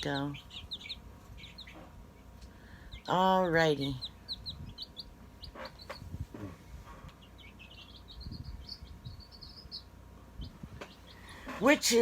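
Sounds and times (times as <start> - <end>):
chicks peeping: 0.0 - 11.8.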